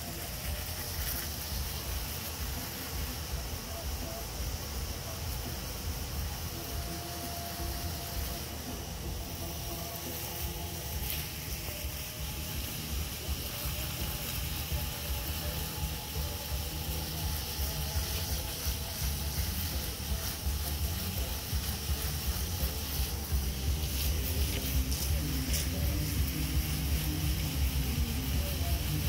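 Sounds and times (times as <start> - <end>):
hose nozzle spraying water: 0.0 - 29.0.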